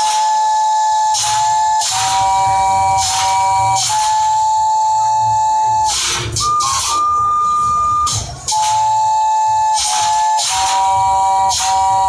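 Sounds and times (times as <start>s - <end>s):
whistle-like chords: 0.0s - 12.0s.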